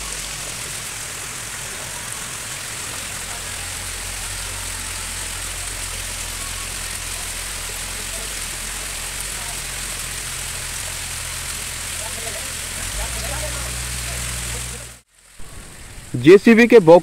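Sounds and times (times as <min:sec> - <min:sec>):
crane engine droning: 0:00.0 - 0:16.1
even hiss: 0:00.0 - 0:17.0.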